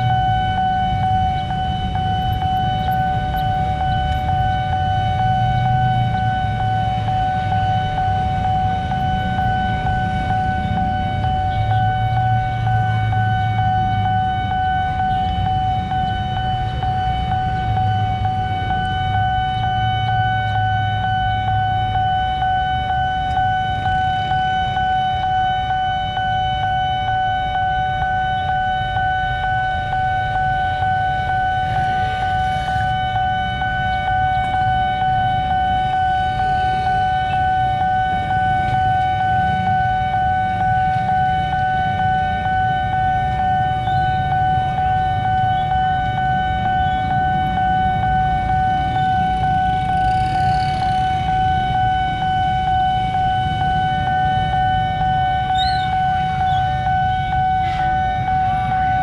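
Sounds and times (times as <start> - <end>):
level crossing alarm tone: 0.0 - 59.0
road traffic rumble: 0.0 - 59.0.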